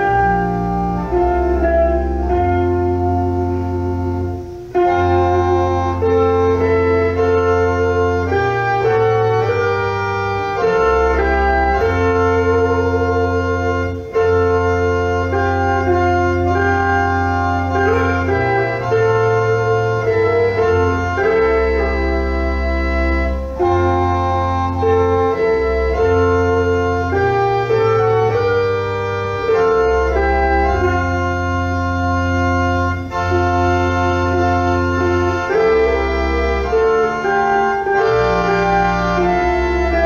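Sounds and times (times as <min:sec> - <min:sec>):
church organ chords: 0:00.0 - 0:40.0
wavering electric guitar notes: 0:00.0 - 0:40.0.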